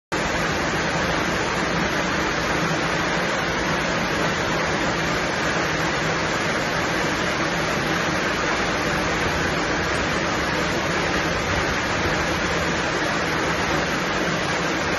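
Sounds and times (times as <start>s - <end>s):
water rushing: 0.1s - 14.9s.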